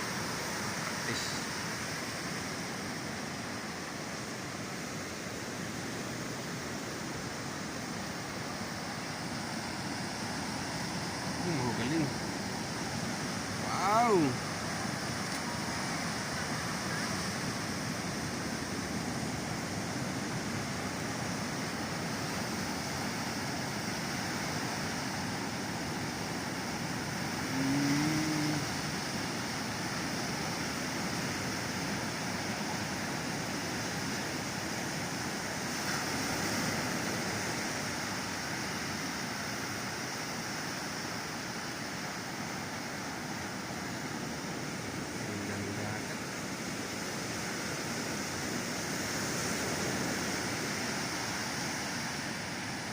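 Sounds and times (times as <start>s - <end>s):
ocean surf washing onto beach: 0.0s - 52.9s.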